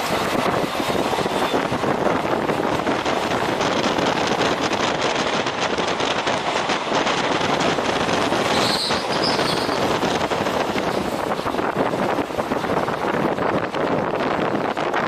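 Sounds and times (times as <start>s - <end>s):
wheels rushing on rails: 0.0s - 15.0s
wind on microphone: 0.0s - 15.0s.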